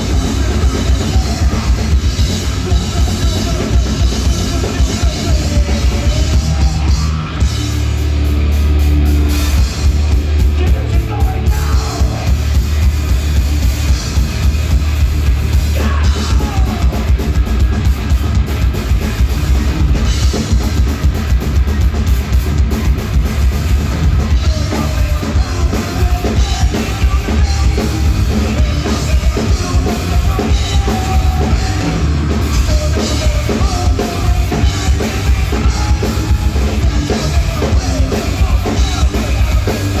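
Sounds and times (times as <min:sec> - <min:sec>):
fast distorted electric guitars: 0:00.0 - 0:40.0
loud busy drums: 0:00.0 - 0:40.0.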